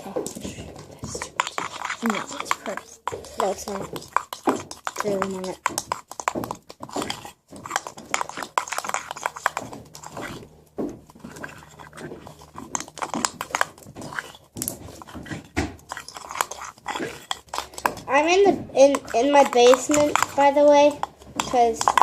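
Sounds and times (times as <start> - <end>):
slime squelching by hand: 0.0 - 22.0.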